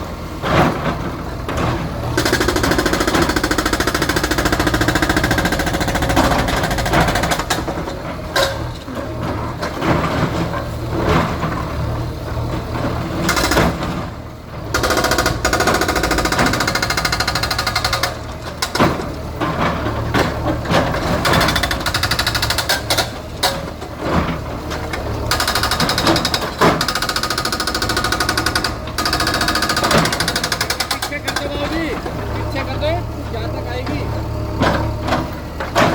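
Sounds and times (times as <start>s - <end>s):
bulldozer diesel engine: 0.0s - 35.9s.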